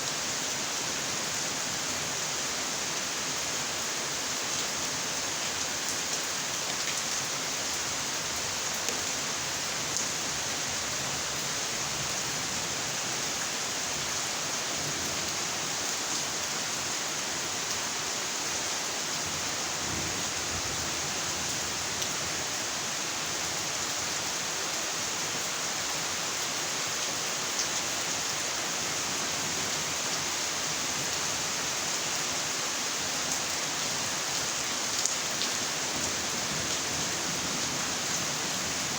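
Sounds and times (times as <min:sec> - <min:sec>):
heavy rainfall hiss: 0:00.0 - 0:38.9.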